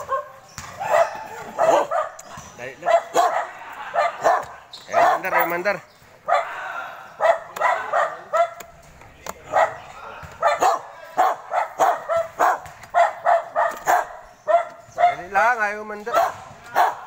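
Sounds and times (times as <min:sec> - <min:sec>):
dog barking: 0:00.0 - 0:05.6, 0:06.2 - 0:06.5, 0:07.2 - 0:08.7, 0:09.5 - 0:15.4, 0:16.1 - 0:17.0.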